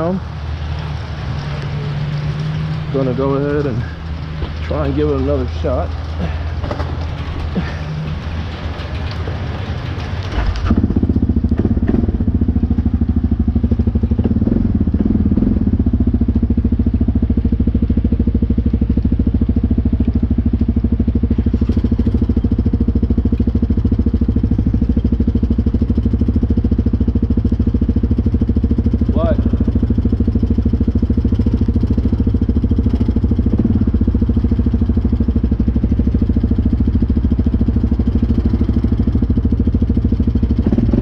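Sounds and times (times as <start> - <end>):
atv engine idling: 0.0 - 41.0.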